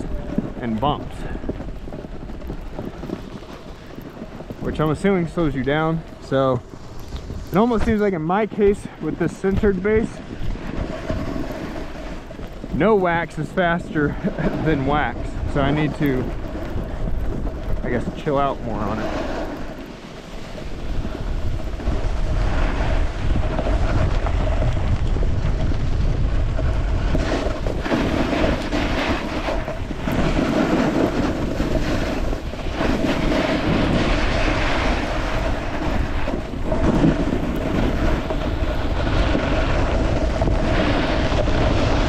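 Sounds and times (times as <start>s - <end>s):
wind rushing over microphone: 0.0s - 42.0s
snowboard hissing over snow: 2.6s - 42.0s.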